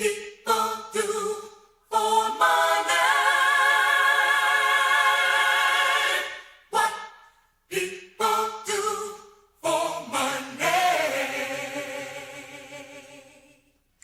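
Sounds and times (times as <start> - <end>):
voices singing in harmony: 0.0 - 14.0.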